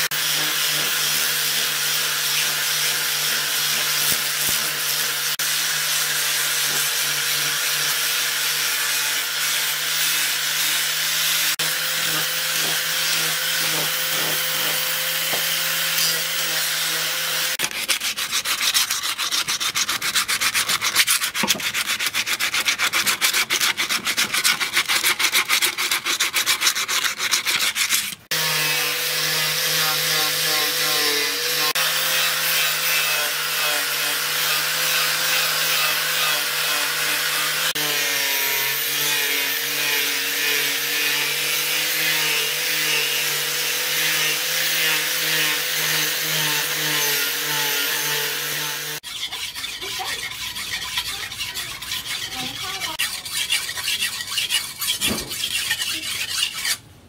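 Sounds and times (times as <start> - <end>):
angle grinder grinding steel: 0.0 - 23.3, 26.1 - 56.8
hand sanding wooden handle: 0.0 - 56.8.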